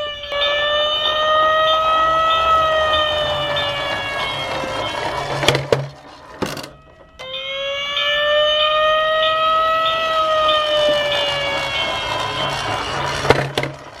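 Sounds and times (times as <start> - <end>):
siren wail: 0.0 - 14.0.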